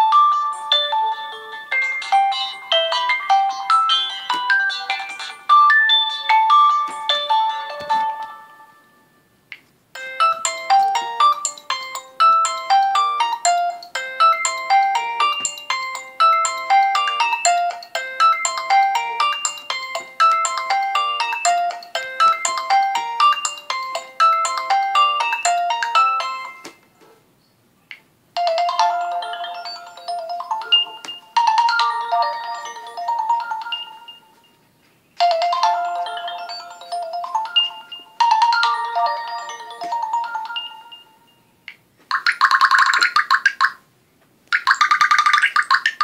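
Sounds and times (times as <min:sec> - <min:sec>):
phone ringtone melody: 0:00.0 - 0:09.4, 0:10.0 - 0:26.8, 0:28.4 - 0:34.6, 0:35.2 - 0:41.5.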